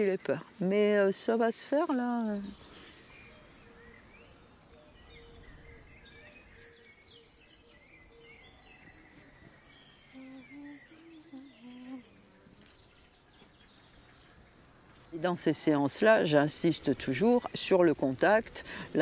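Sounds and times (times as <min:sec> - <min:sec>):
soft background hiss: 0:00.0 - 0:19.0
songbird singing: 0:00.0 - 0:19.0.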